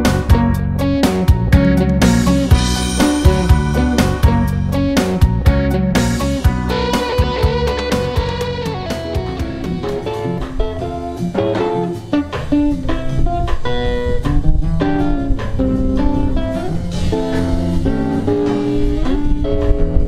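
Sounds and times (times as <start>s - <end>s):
drum kit: 0.0s - 20.0s
electric bass: 0.0s - 20.0s
electric guitar lead melody: 0.0s - 20.0s.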